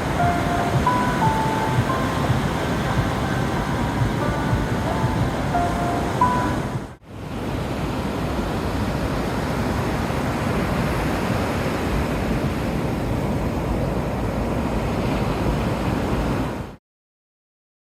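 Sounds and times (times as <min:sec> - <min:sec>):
sea surf washing onto beach: 0:00.0 - 0:16.8
wind on the microphone: 0:00.0 - 0:16.8.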